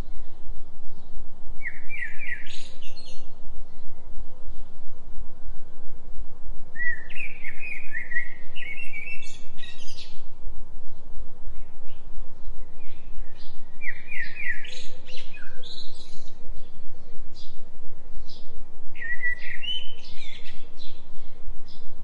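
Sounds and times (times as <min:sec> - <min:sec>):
songbird chirping: 0:00.0 - 0:22.0.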